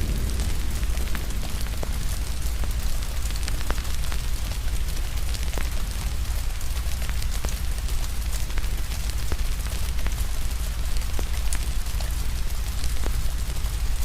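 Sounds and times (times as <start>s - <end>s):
rain falling: 0.0s - 14.0s
wood fire crackling: 0.0s - 14.0s.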